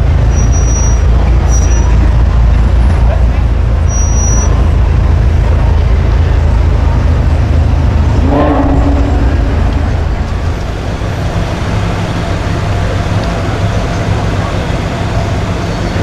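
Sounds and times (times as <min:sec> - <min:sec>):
street traffic: 0:00.0 - 0:16.0
vehicle engine rumbling: 0:00.0 - 0:16.0.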